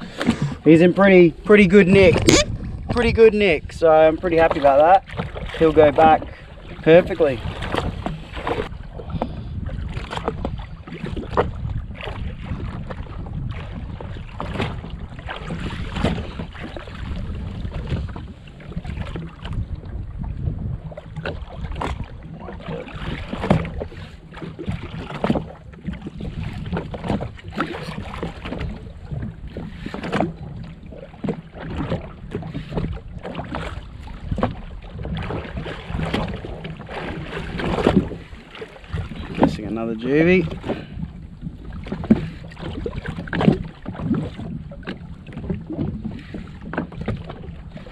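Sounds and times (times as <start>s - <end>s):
waves slapping against hull: 0.0s - 47.9s
wind buffeting microphone: 0.0s - 47.9s.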